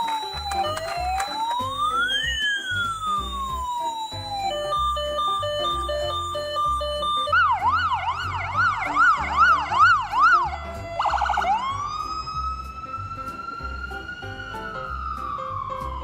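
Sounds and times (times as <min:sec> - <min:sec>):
background music with low beat: 0:00.0 - 0:16.0
electronic ambulance siren: 0:00.0 - 0:16.0.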